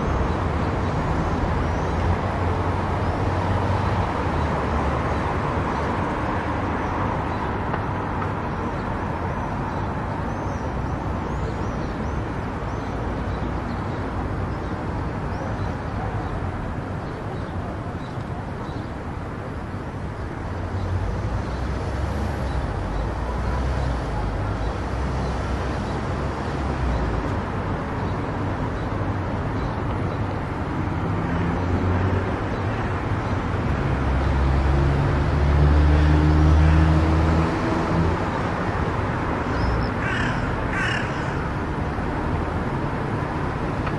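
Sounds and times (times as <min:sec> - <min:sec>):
car road and tyre noise: 0:00.0 - 0:43.9.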